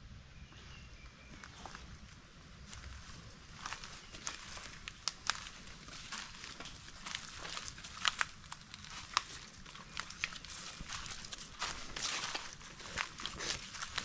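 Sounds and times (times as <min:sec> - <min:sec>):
twigs crackling underfoot: 0:01.0 - 0:14.0
footsteps crunching through leaves: 0:01.3 - 0:14.0.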